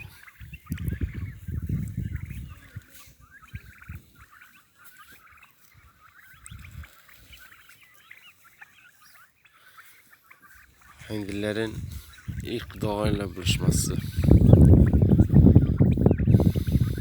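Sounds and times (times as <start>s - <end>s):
young turkeys peeping and chirping: 0.0s - 17.0s.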